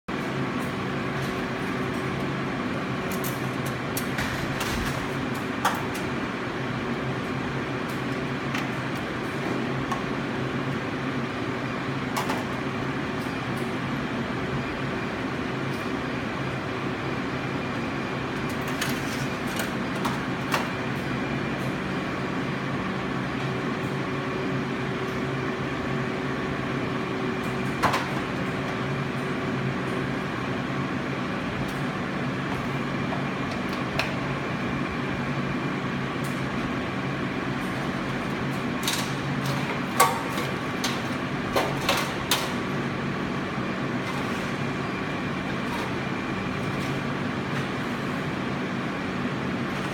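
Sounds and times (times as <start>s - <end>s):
steady machine hum: 0.1s - 49.9s.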